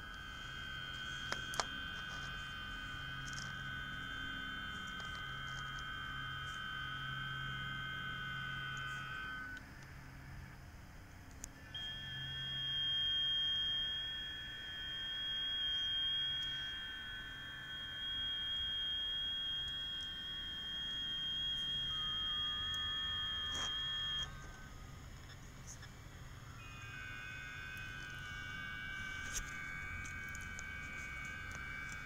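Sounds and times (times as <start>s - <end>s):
digital signal tones from radio: 0.0s - 10.5s, 11.3s - 32.0s
receiver hiss: 0.0s - 32.0s.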